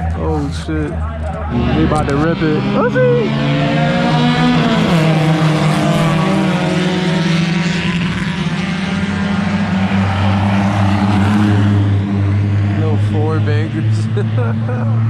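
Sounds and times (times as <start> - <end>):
lower engine note: 0.0 - 15.0
race cars at high revs: 0.0 - 15.0.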